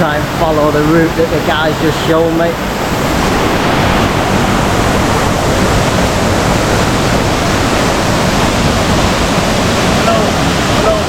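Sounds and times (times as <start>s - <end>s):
waterfall and rushing river: 0.0s - 11.0s.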